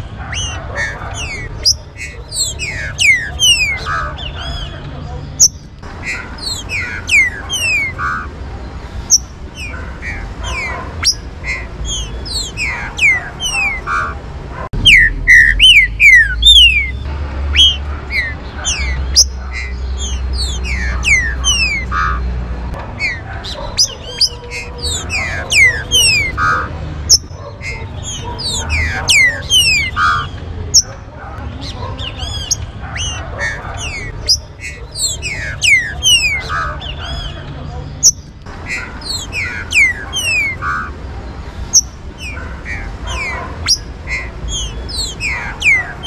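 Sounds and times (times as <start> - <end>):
bird whistled song: 0.0 - 8.3, 9.0 - 14.2, 14.8 - 22.3, 23.0 - 31.0, 31.6 - 37.4, 38.0 - 41.0, 41.7 - 46.0.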